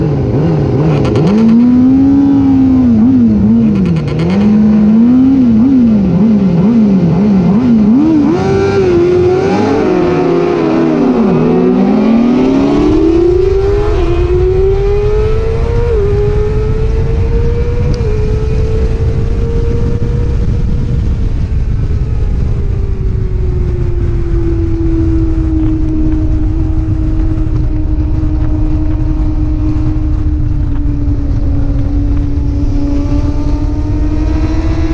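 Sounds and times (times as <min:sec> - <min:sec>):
racing motorcycle engine revving: 0:00.0 - 0:34.9
wind rushing over microphone: 0:00.0 - 0:34.9.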